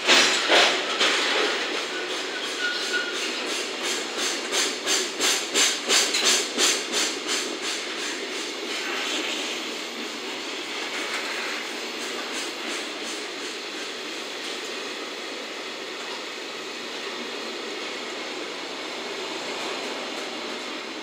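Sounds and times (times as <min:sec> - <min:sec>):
freight train wheels rolling on rails: 0:00.0 - 0:21.0.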